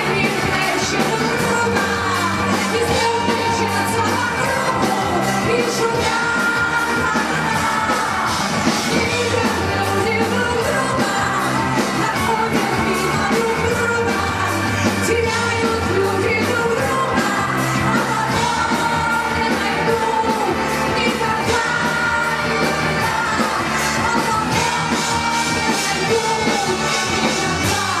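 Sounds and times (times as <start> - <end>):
rock band playing: 0.0 - 28.0
steady drum beat: 0.0 - 28.0
woman singing: 0.0 - 28.0.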